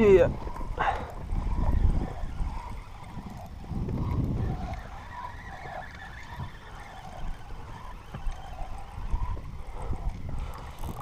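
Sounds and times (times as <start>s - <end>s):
fishing reel whirring: 0.0s - 11.0s
light reel clicks: 0.0s - 11.0s
low wind: 0.0s - 11.0s
water noise: 0.0s - 11.0s.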